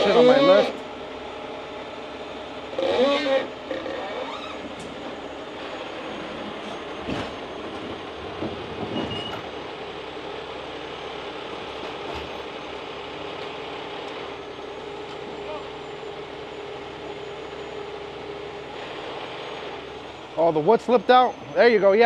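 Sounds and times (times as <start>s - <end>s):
tow truck engine and winch: 0.0s - 22.0s.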